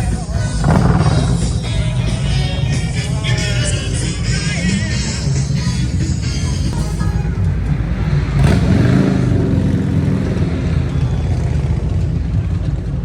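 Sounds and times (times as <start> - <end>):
car engine running loud: 0.0 - 13.0.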